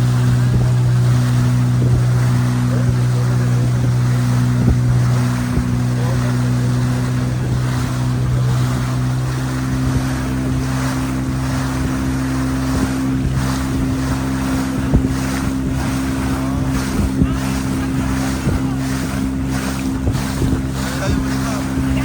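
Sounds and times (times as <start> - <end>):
boat motor droning: 0.0 - 22.0
water noise: 0.0 - 22.0
wind noise: 0.0 - 22.0.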